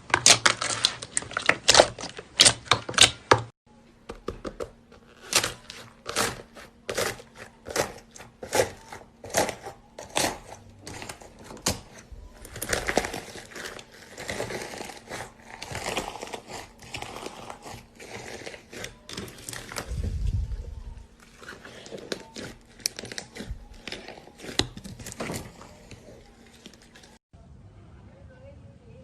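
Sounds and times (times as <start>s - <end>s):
crackly slime squishing: 0.0s - 3.5s, 4.3s - 27.2s.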